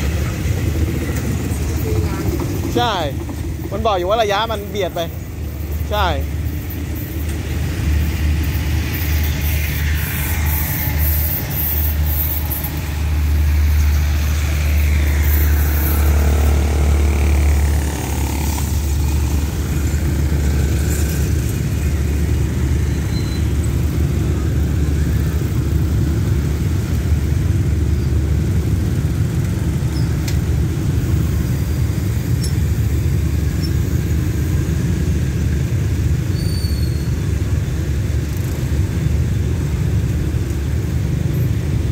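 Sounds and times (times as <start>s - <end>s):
motorcycle and car engines: 0.0s - 41.9s
train coaches rumbling past: 0.0s - 41.9s.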